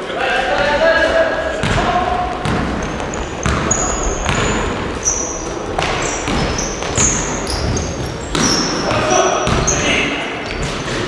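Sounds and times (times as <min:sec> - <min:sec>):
basketballs bouncing on gym floor: 0:00.4 - 0:11.0
shoes squeaking on court: 0:00.6 - 0:11.0.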